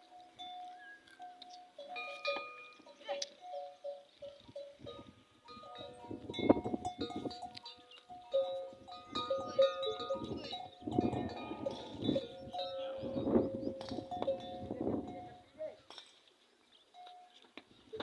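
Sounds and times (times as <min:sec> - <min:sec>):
camel bells clanking: 0:00.0 - 0:16.0, 0:16.9 - 0:17.4.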